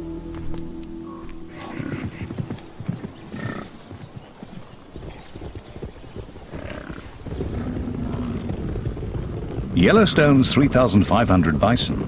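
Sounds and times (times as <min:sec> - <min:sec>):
hooves pounding the ground: 0:00.3 - 0:12.0.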